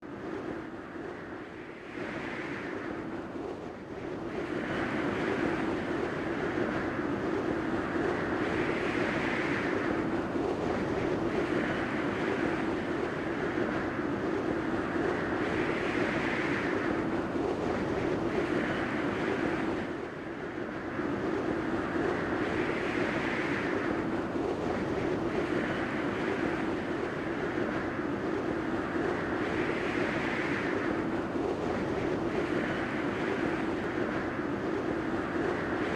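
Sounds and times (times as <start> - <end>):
steady rushing noise: 0.0 - 35.9.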